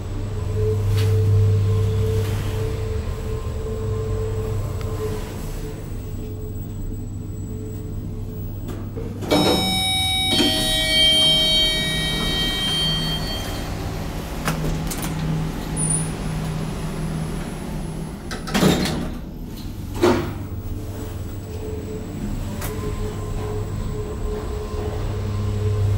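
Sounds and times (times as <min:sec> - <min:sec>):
elevator low pulsing hum: 0:00.0 - 0:25.9.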